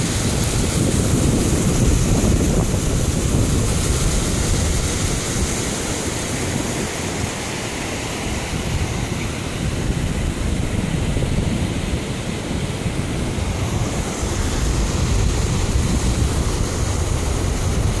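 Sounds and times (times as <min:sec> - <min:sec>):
river water rushing: 0:00.0 - 0:18.0
wind buffeting microphone: 0:00.0 - 0:18.0.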